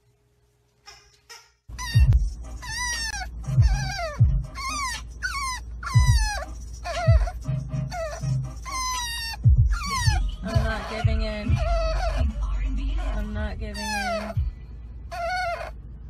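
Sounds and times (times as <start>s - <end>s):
puppy whining and crying: 1.7s - 14.5s, 15.1s - 15.8s.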